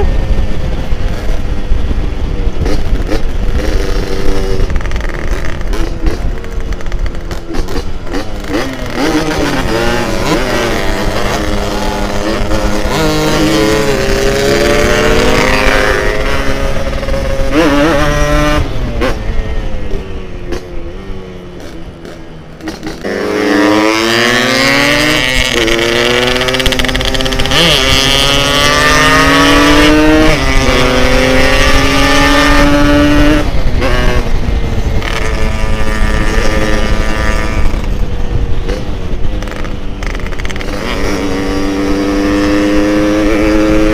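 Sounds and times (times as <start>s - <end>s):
two-stroke motorcycle engine revving: 0.0s - 43.9s
wind noise: 0.0s - 43.9s.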